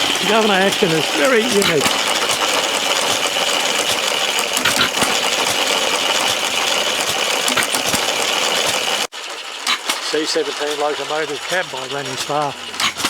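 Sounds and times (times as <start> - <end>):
light irregular ticking: 0.0 - 13.0
small model engine clattering: 0.0 - 13.0.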